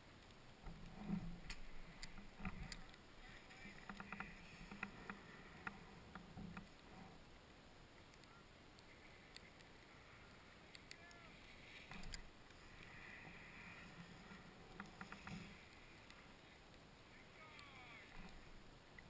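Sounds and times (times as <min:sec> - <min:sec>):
light clicks: 0:00.1 - 0:07.0, 0:07.9 - 0:19.0.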